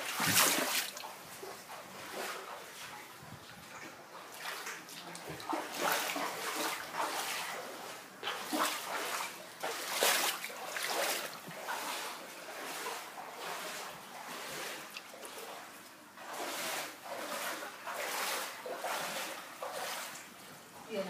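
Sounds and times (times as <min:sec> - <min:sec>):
floodwater splashing: 0:00.0 - 0:21.0.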